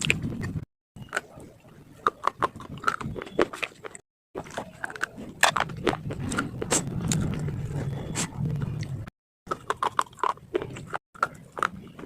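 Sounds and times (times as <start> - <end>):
crunchy food being chewed: 0.0 - 12.0.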